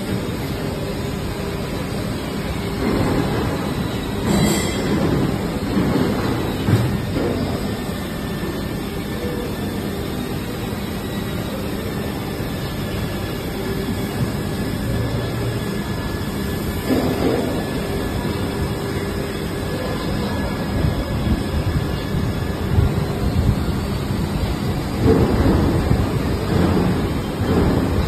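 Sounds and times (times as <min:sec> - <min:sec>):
injection moulding machine running: 0:00.0 - 0:28.0.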